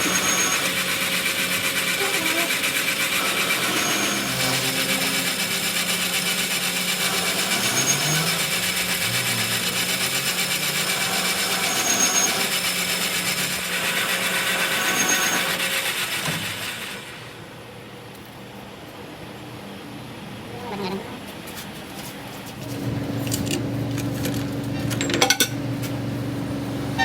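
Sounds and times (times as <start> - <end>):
power tool running on metal: 0.0 - 17.5, 22.6 - 27.0.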